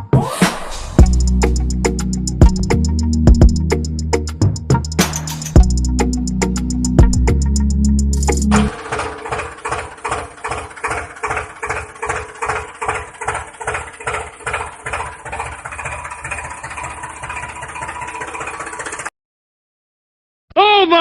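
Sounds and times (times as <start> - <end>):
tractor engine chugging: 1.0 - 19.1.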